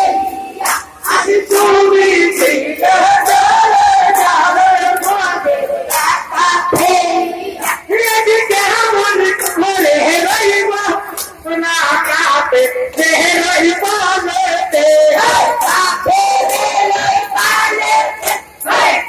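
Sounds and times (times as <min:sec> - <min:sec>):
men chanting together: 0:00.6 - 0:19.0.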